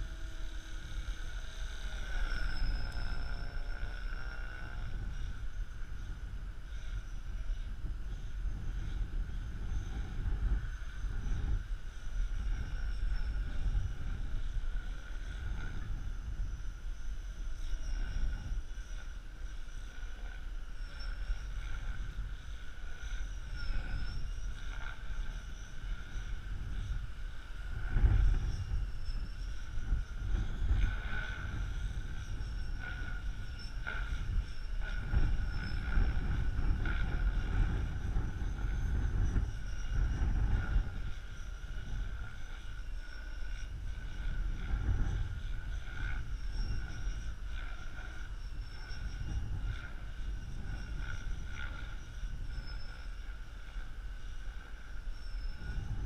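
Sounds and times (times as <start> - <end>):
faint high whine: 0.0 - 56.0
wind buffeting microphone: 0.0 - 56.0.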